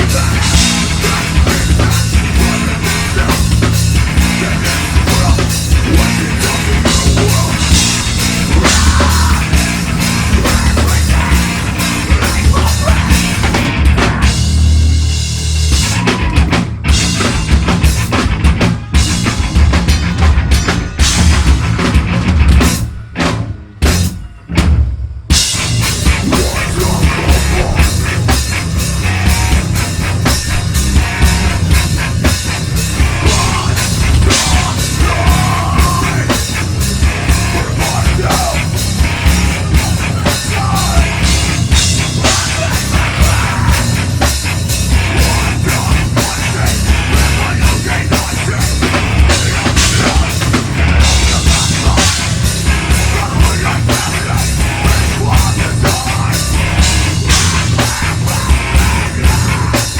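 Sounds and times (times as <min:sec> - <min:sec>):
drum kit: 0:00.0 - 0:59.9
heavy metal band playing live: 0:00.0 - 0:59.9.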